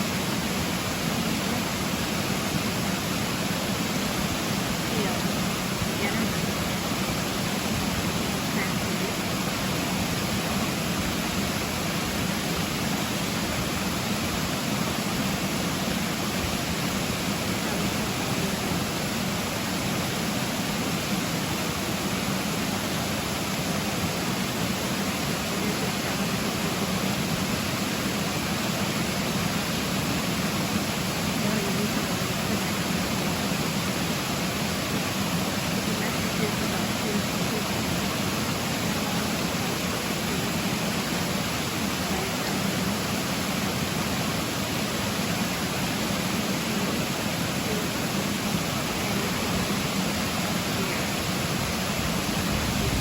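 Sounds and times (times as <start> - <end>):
water rushing in rocky stream: 0.0 - 53.0.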